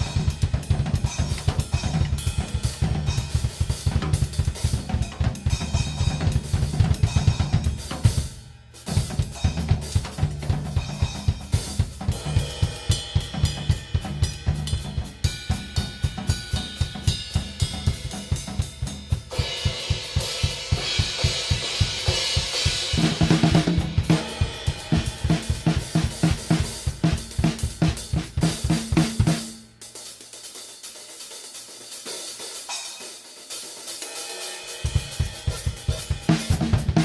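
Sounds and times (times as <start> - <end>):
drum kit groove: 0.0 - 37.0.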